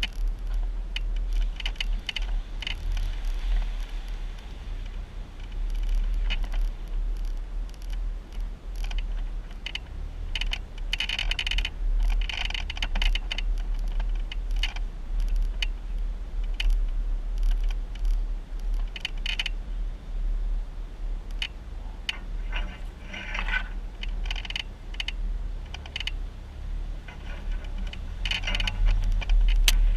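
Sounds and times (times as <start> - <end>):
clicking and rattling: 0.0 - 3.4, 4.8 - 15.8, 16.4 - 19.6, 21.3 - 26.2, 27.0 - 29.9
vehicle engine rumble: 0.0 - 29.9.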